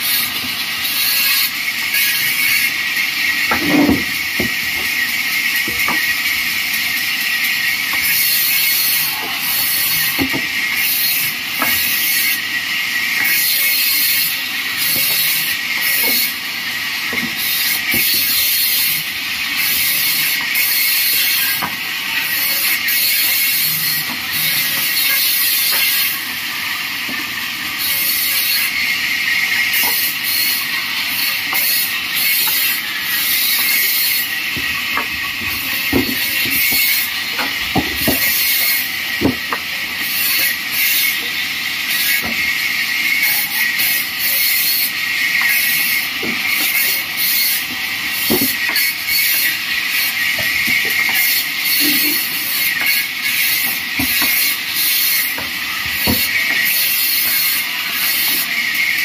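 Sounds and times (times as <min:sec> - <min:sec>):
bandsaw cutting wood: 0:00.0 - 0:59.0.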